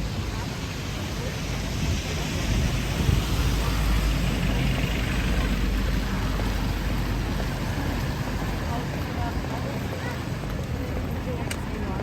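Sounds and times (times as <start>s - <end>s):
traffic on wet street: 0.0s - 12.0s.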